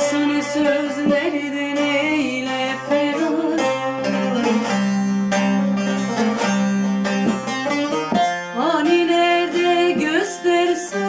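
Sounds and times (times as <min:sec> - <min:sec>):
saz plucked melody: 0:00.0 - 0:11.0.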